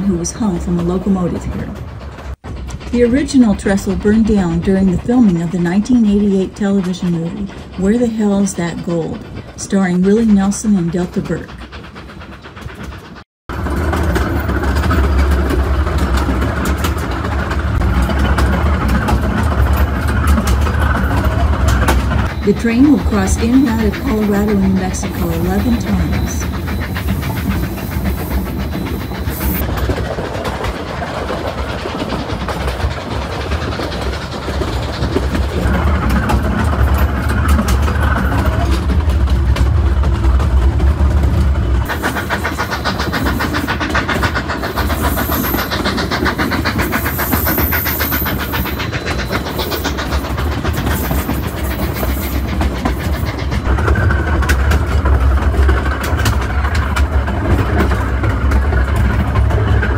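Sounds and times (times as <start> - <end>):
fast even train clatter: 0.0 - 59.9
steam train low rumble: 0.0 - 59.9.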